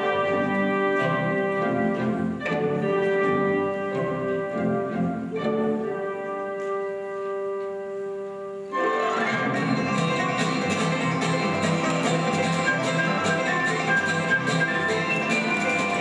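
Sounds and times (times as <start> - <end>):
slow instrumental melody: 0.0 - 16.0.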